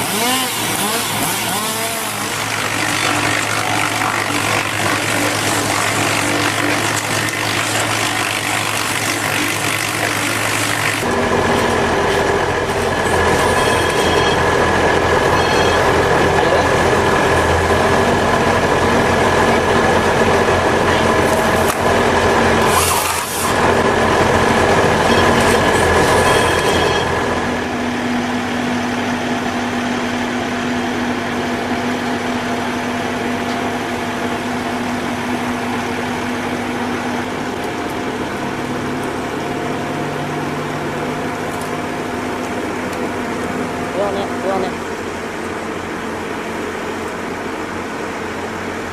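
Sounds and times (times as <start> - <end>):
constant whining tones: 0.0 - 40.8
heavy machinery engine drone: 0.0 - 48.9.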